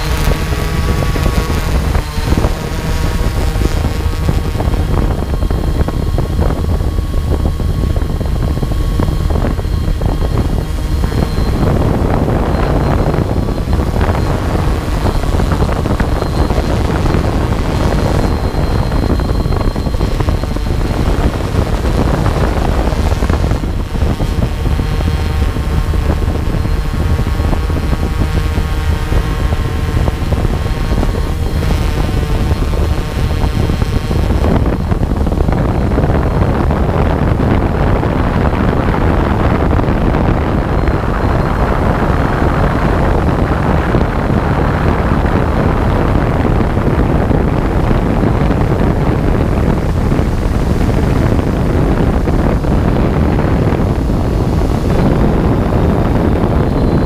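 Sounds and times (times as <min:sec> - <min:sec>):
small aircraft motor and propeller hum: 0:00.0 - 0:57.0
wind rumble on microphone: 0:00.0 - 0:57.0.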